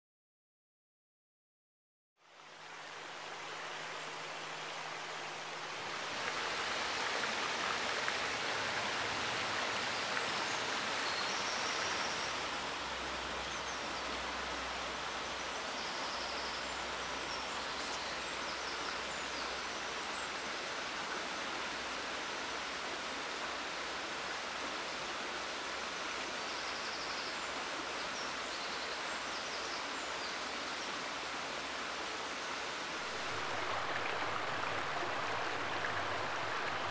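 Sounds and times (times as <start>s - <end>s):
stream rushing over stones: 2.4s - 36.9s.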